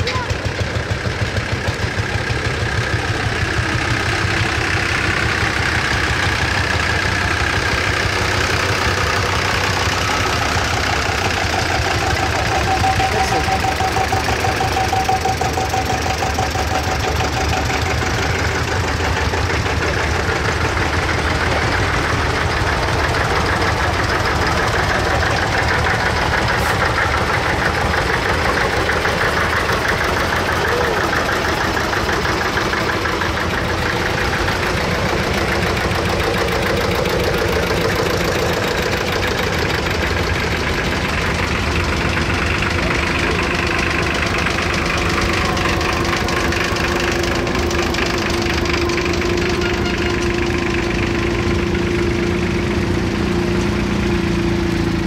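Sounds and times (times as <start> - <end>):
tractors driving past: 0.0 - 55.0.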